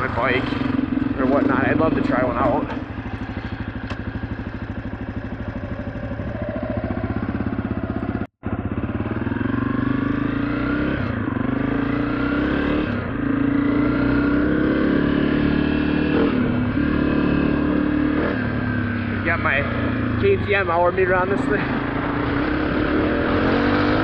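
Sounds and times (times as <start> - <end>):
motorbike engine accelerating: 0.0 - 24.0.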